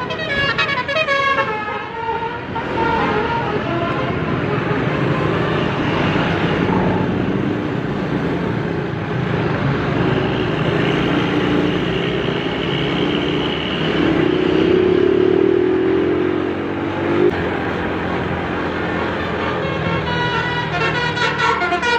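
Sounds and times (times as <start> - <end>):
road traffic passing: 0.0 - 21.9.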